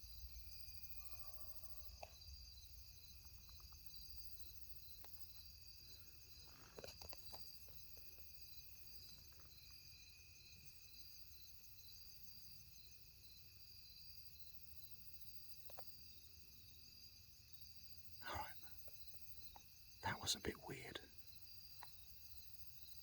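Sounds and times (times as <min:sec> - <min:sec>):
crickets and insects chirping: 0:00.0 - 0:23.0.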